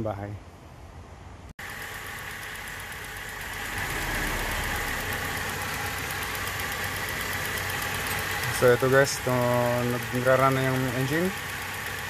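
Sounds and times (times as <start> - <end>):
car engine idling: 1.6 - 12.0.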